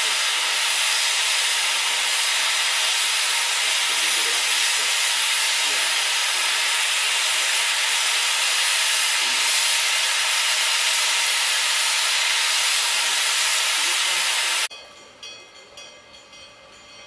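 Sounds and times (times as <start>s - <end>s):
steam locomotive venting steam: 0.0s - 14.7s.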